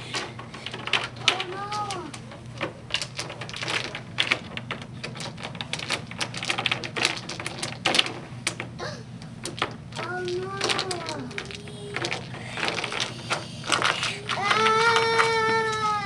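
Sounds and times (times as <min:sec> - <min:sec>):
dice clicking and rattling: 0:00.0 - 0:15.9.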